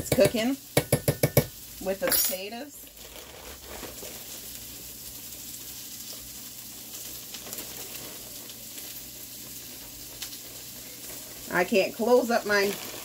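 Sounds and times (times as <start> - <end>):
bacon and onion sizzling in pan: 0.0 - 13.0.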